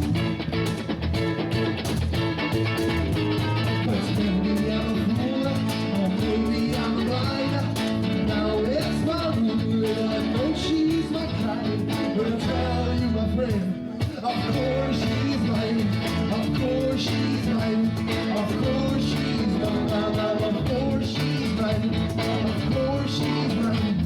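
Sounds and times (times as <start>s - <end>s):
guitar with bending notes: 0.0s - 24.0s
live rock band: 0.0s - 24.0s.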